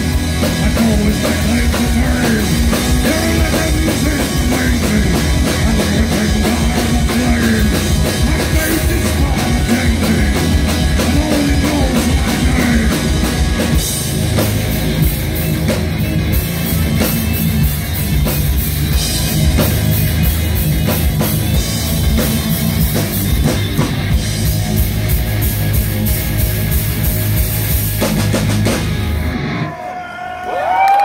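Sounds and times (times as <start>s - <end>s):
crowd cheering and shouting: 0.0s - 26.4s, 29.0s - 31.0s
heavy metal band playing: 0.0s - 30.7s.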